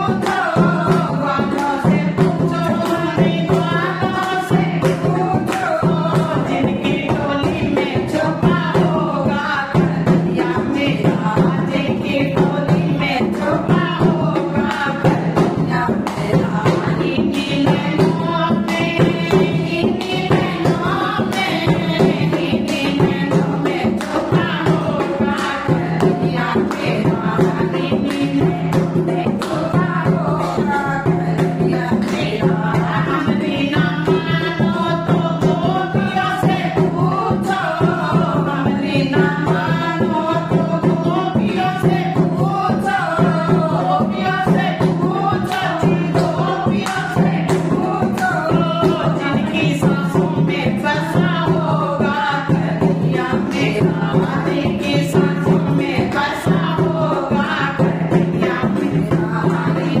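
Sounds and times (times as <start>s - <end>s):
hand drum beat: 0.0s - 60.0s
women singing devotional song: 0.0s - 60.0s.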